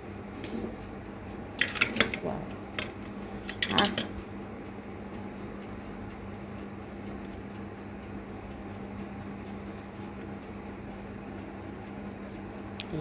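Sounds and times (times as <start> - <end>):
electric oven humming: 0.0 - 13.0.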